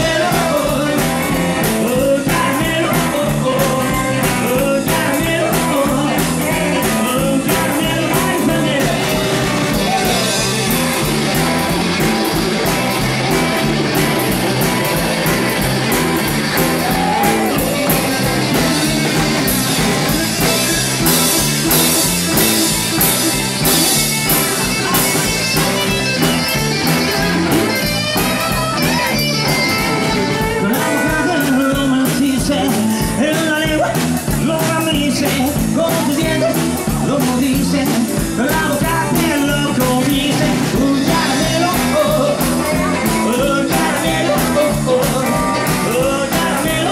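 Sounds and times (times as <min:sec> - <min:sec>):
electric guitars: 0:00.0 - 0:46.9
person singing: 0:00.0 - 0:46.9
rockabilly band playing: 0:00.0 - 0:46.9
snare and cymbals beat: 0:00.3 - 0:46.8.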